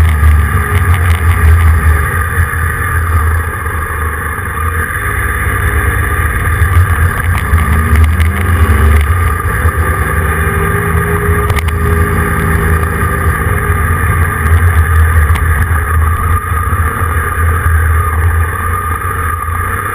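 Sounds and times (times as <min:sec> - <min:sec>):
road noise: 0:00.0 - 0:19.9
vehicle engine: 0:00.0 - 0:19.9.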